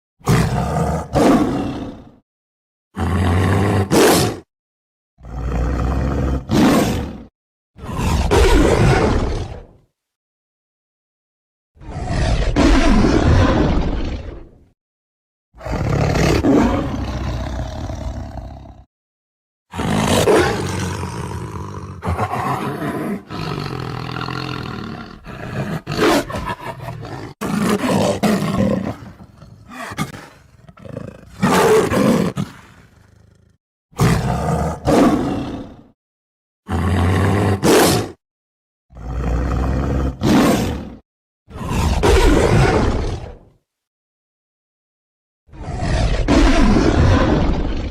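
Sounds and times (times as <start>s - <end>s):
tiger roaring and growling: 0.2s - 2.2s, 3.0s - 4.5s, 5.2s - 9.9s, 11.8s - 14.7s, 15.6s - 18.9s, 19.7s - 36.0s, 36.7s - 38.2s, 38.9s - 43.6s, 45.5s - 47.9s.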